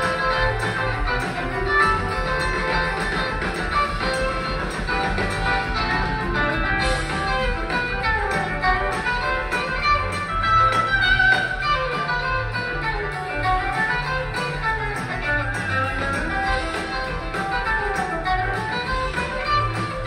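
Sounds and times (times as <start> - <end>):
electric guitars: 0.0 - 20.0
rock band playing: 0.0 - 20.0.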